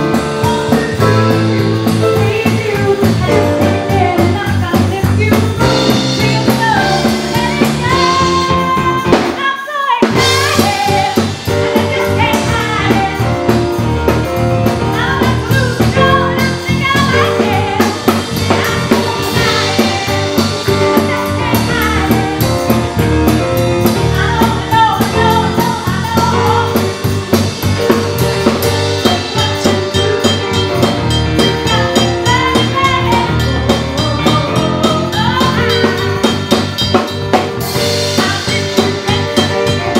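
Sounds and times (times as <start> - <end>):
electric bass guitar: 0.0 - 9.4, 10.1 - 39.9
drum kit: 0.0 - 39.9
woman singing lead: 0.0 - 39.9.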